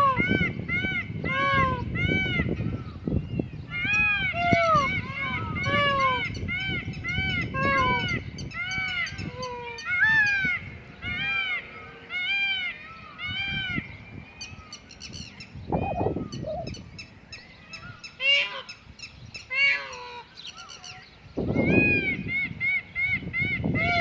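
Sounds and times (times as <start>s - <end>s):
peacocks honking calls: 3.7s - 24.0s.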